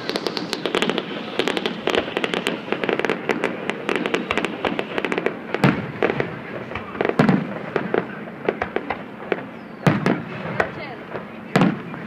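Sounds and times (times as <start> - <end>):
fireworks crackling and popping: 0.0 - 12.0
loud firework bang: 0.0 - 12.0.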